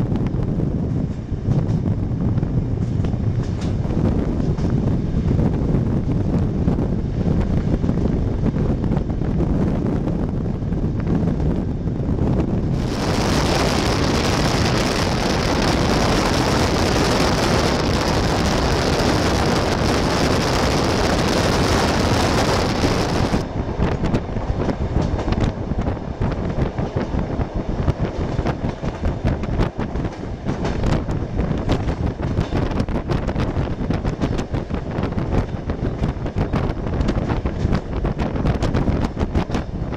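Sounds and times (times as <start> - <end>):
train running rumble: 0.0 - 39.9
hissy train noise: 0.1 - 39.9.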